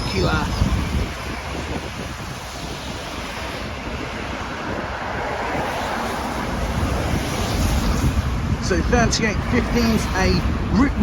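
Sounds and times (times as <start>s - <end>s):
road traffic noise: 0.0s - 11.0s
wind buffeting microphone: 0.0s - 11.0s.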